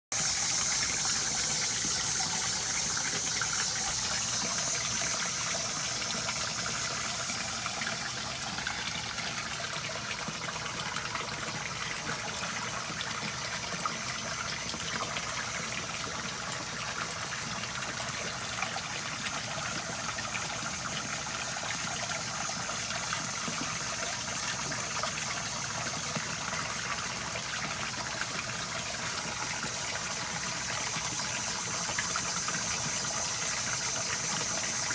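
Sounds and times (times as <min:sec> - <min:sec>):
water splashing into pond: 0:00.1 - 0:34.9.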